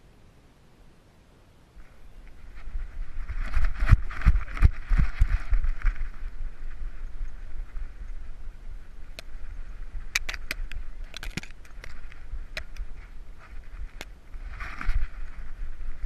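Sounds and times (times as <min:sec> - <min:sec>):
camera jostling rumble: 0:01.8 - 0:16.0
grass brushing against camera: 0:01.8 - 0:16.0.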